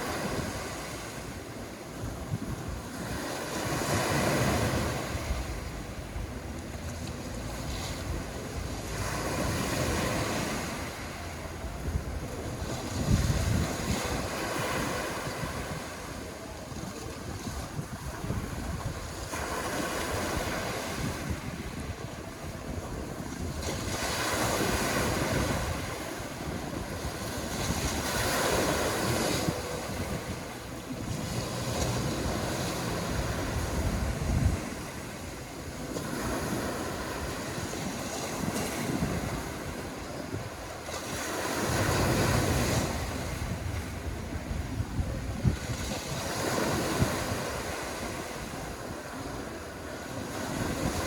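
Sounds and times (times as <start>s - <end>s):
small waves washing onto shore: 0.0s - 51.0s
wind buffeting microphone: 0.0s - 51.0s.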